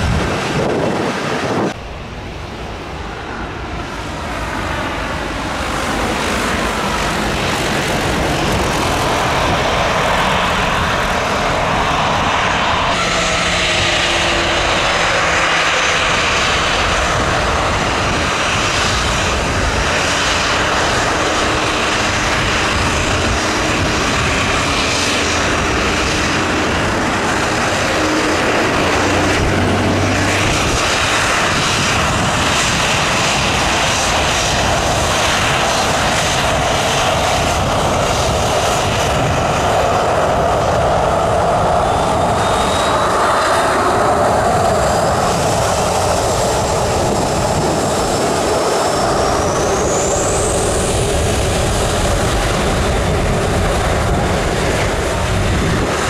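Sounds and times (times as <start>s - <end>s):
aircraft engines running: 0.0s - 56.0s.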